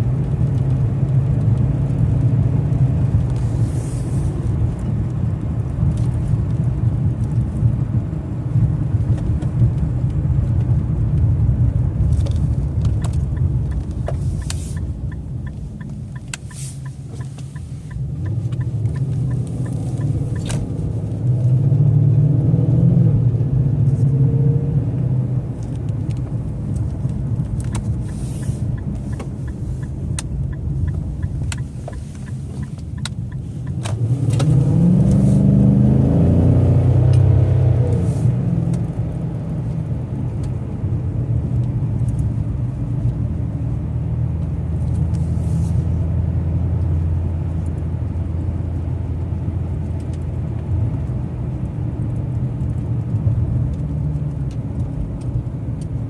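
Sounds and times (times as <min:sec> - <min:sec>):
car exhaust rumble: 0:00.0 - 0:56.0.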